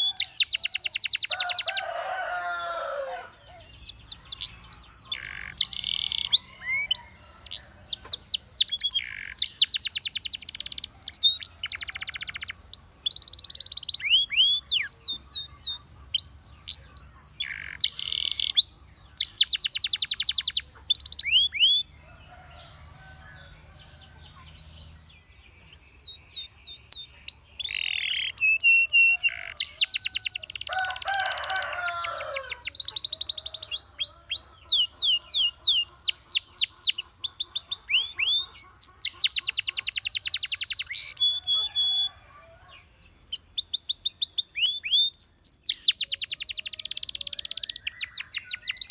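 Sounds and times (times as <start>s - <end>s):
canary singing: 0.0s - 48.9s.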